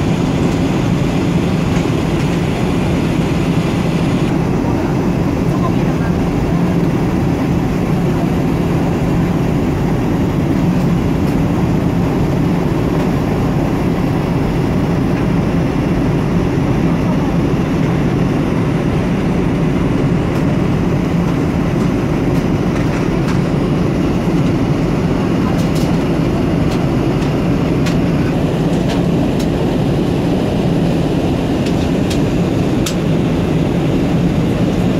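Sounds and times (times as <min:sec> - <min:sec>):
airliner cabin rumble: 0:00.0 - 0:34.9.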